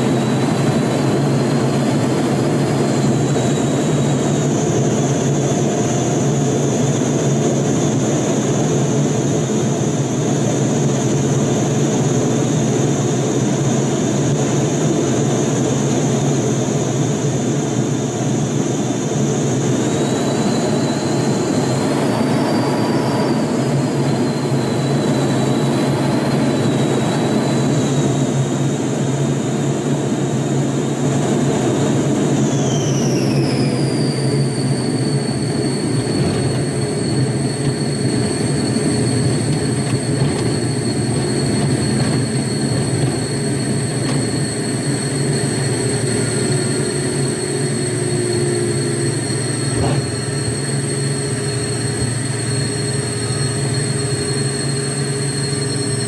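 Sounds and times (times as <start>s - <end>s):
cockpit air rush and hum: 0.0s - 56.0s
jet engine whine: 0.0s - 56.0s.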